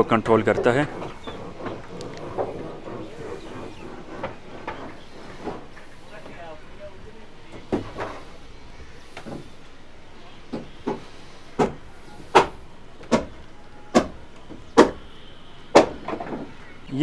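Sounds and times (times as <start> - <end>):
footsteps on wooden deck: 0.0 - 16.9.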